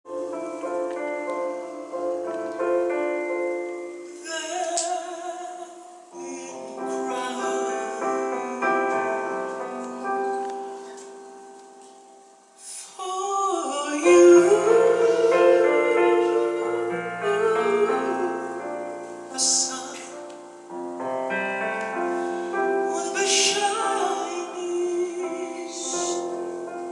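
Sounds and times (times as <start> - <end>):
person singing with vibrato: 0.1 - 10.4, 12.6 - 20.7, 21.3 - 26.9
piano playing slow chords: 0.1 - 26.9.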